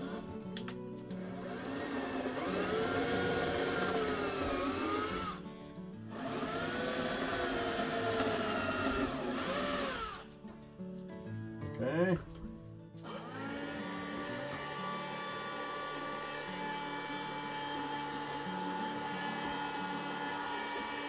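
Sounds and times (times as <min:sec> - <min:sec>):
small electric drill whining: 0:00.0 - 0:05.5, 0:06.1 - 0:10.4, 0:13.0 - 0:21.0
background music: 0:00.0 - 0:21.0.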